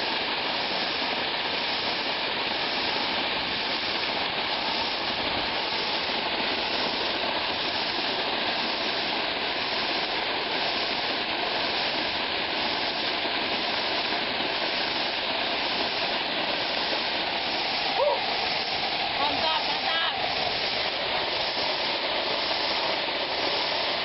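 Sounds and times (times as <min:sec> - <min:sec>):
waterfall and rushing river: 0:00.0 - 0:24.0.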